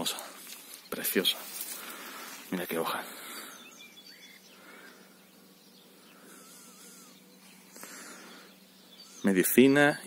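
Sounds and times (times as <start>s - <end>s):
insect buzzing: 1.4s - 9.8s.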